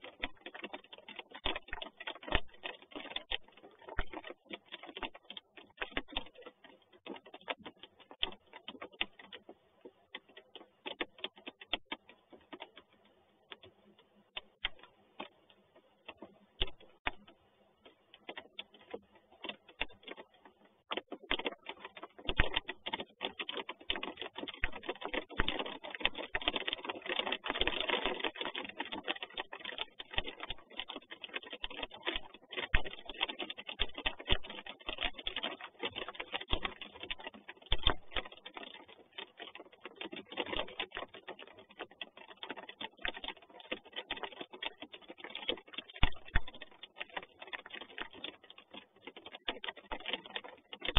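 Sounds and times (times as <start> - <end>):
raindrops tapping on nest box: 0.0 - 50.9.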